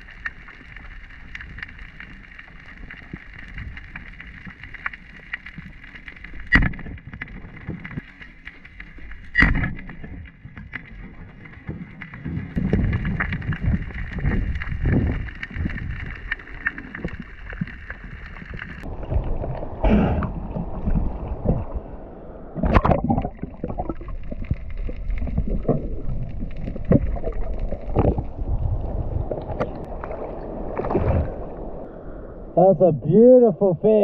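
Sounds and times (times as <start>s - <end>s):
underwater gurgling water: 0.0s - 32.2s.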